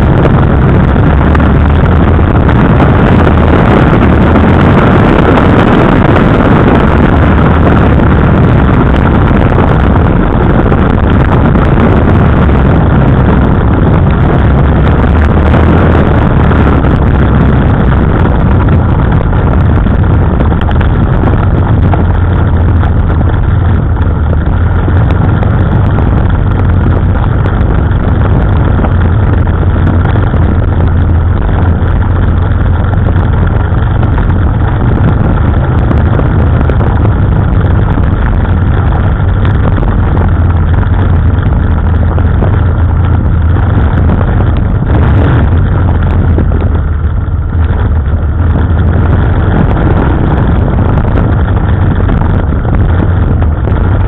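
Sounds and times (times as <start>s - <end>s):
motorcycle engine running: 0.0s - 54.0s
rushing noise: 0.0s - 54.0s.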